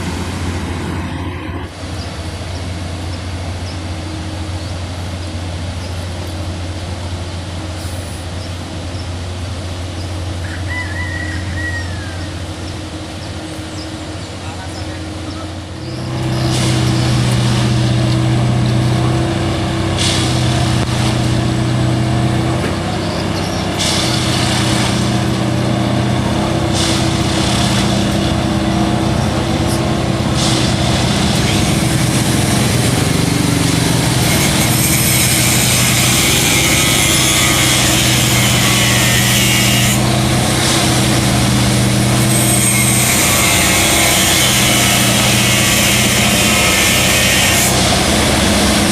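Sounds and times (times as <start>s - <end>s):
diesel engine running: 0.0s - 10.7s, 11.3s - 48.9s.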